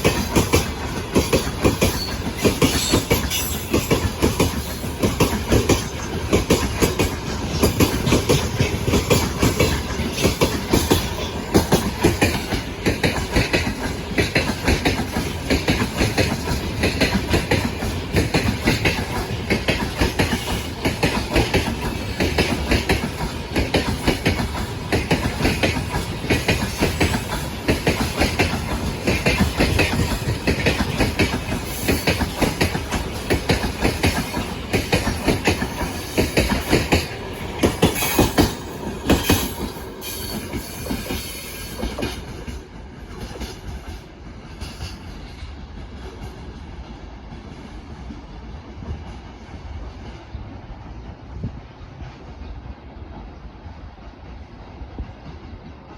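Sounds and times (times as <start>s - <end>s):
train wheels clacking over rail joints: 0.0s - 50.2s.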